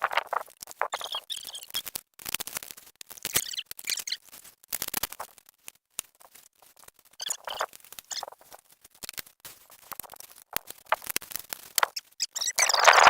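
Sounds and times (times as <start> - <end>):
handling clicks and scratches: 0.0 - 13.0.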